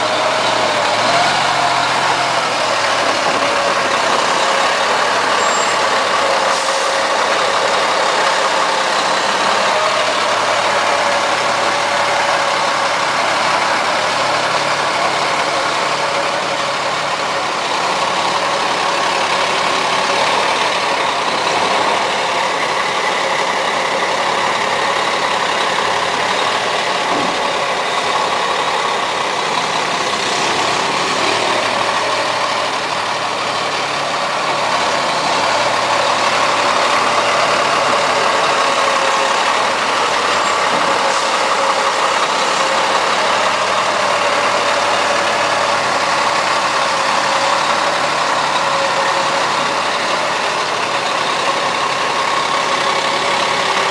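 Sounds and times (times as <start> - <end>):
truck engine running: 0.0 - 53.9.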